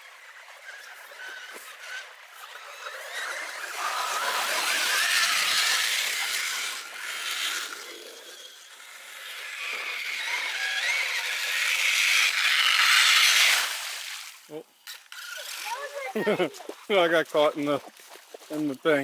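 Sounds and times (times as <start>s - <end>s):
toy truck electric motor whining: 0.0s - 16.9s.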